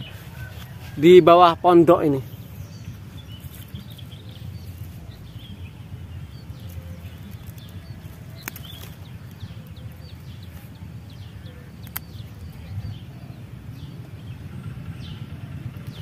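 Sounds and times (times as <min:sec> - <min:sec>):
low steady rumble: 0:00.0 - 0:16.0
small birds chirping: 0:00.0 - 0:16.0.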